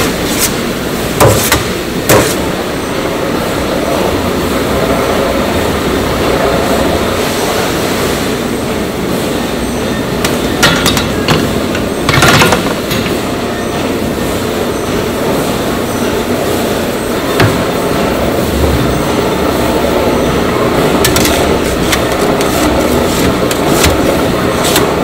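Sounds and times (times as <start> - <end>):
machinery running: 0.0 - 25.0.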